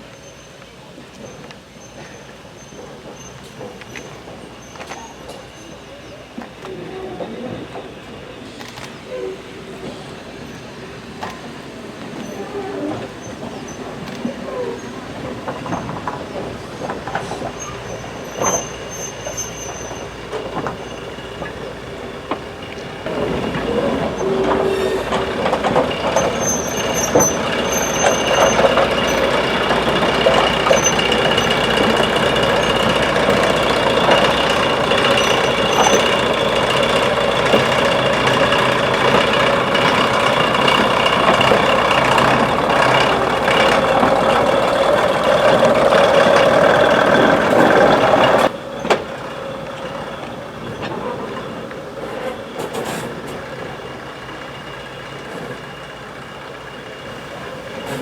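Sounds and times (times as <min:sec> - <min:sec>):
train running: 0:00.0 - 0:58.0.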